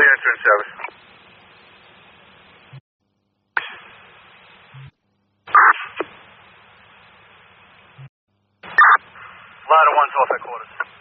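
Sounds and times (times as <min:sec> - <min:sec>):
radio hiss: 0:00.0 - 0:02.8, 0:03.6 - 0:04.9, 0:05.5 - 0:11.0.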